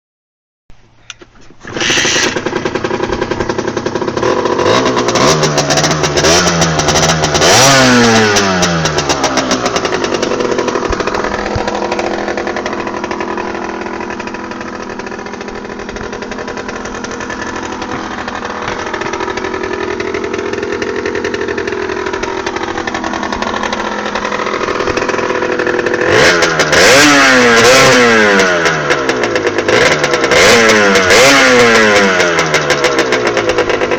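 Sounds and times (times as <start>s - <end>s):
moped engine revving: 1.0s - 33.9s.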